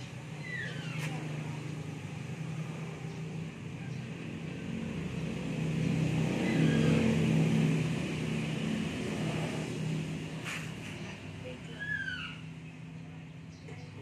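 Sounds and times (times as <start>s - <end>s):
vehicle engine passing: 0.0s - 14.0s.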